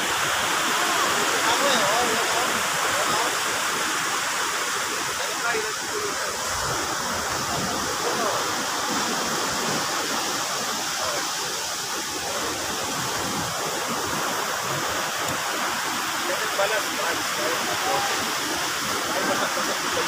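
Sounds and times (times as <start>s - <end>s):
surf rushing: 0.0s - 20.0s
wind: 0.0s - 20.0s.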